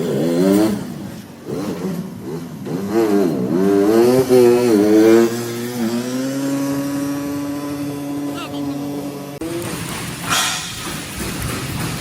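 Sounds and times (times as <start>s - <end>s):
small engine revving: 0.0s - 9.9s.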